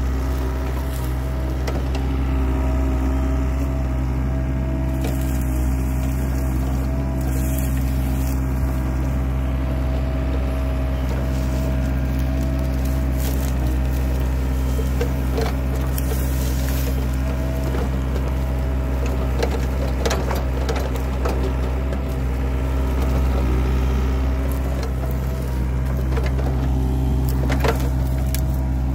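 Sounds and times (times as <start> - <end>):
bucket cracking and scraping soil: 0.0 - 2.3, 4.8 - 28.9
excavator diesel engine running: 0.0 - 28.9.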